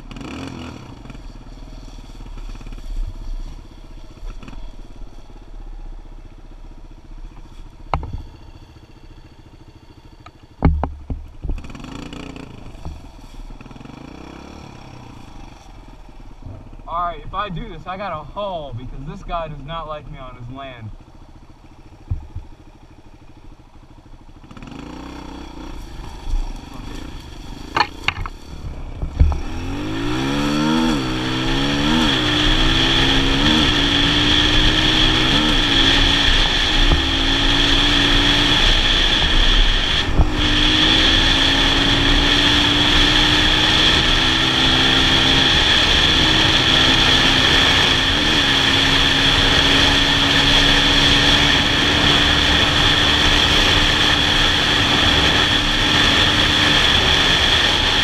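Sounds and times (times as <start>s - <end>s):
dirt bike engine revving: 0.0s - 6.0s, 7.4s - 58.0s.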